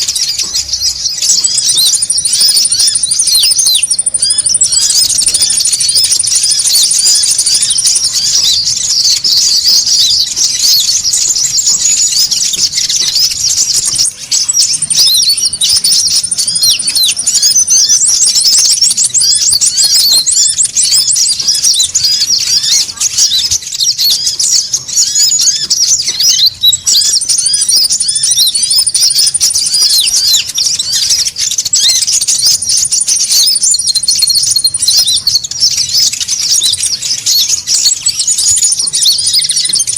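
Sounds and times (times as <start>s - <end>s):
birds chirping rapidly: 0.0s - 39.9s
very high fast bird trill: 0.0s - 39.9s.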